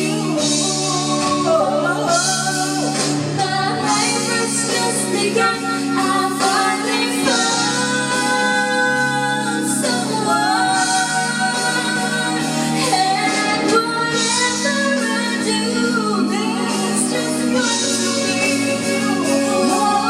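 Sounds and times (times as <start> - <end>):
backing track: 0.0 - 20.0
woman singing a slow ballad: 0.0 - 20.0.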